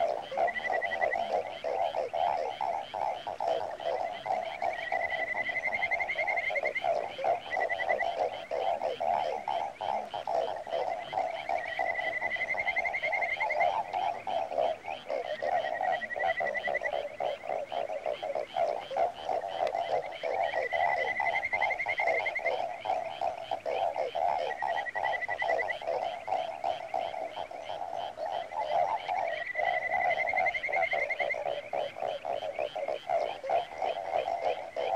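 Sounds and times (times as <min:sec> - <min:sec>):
chorus of calling animals: 0:00.0 - 0:34.9.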